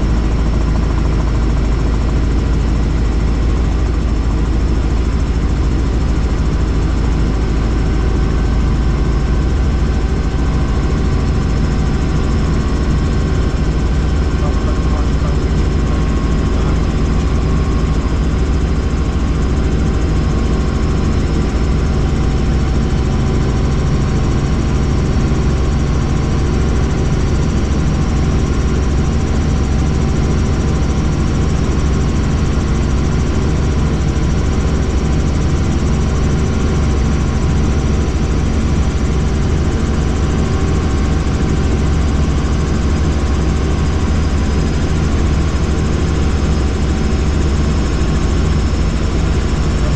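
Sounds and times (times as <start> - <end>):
helicopter rotor and engine rumble: 0.0 - 49.9.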